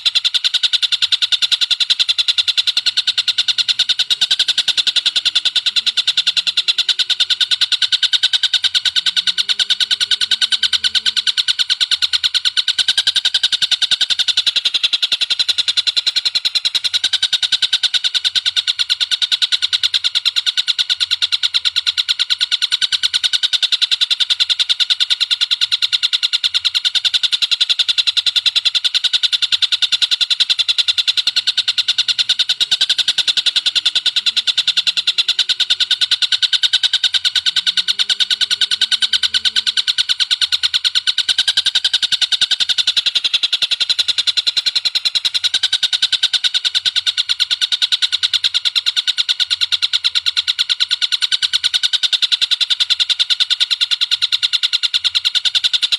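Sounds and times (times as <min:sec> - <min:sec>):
rapid high bird calls: 0:00.0 - 0:55.9.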